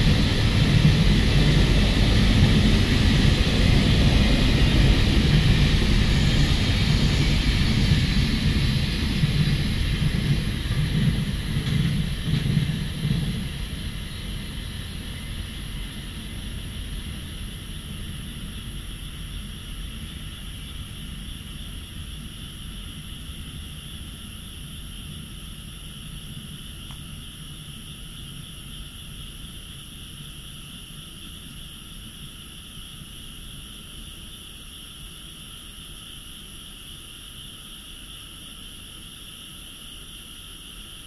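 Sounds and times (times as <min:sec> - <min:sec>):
freight train rumble: 0:00.0 - 0:34.3.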